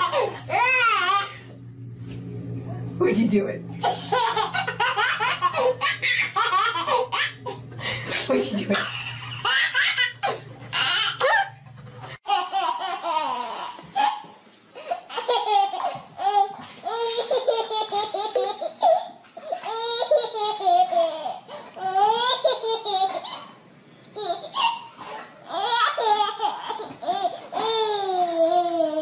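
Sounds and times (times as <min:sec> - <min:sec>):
baby laughing: 0:00.0 - 0:01.4, 0:03.8 - 0:07.6, 0:08.7 - 0:11.6, 0:12.2 - 0:23.6, 0:24.2 - 0:29.0
low steady hum: 0:00.0 - 0:29.0.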